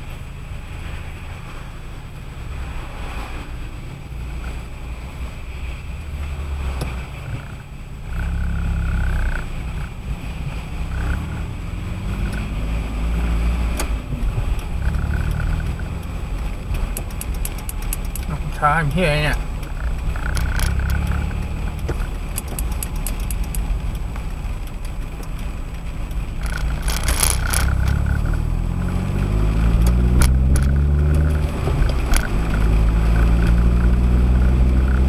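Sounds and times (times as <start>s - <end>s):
car road rumble: 0.0s - 35.0s.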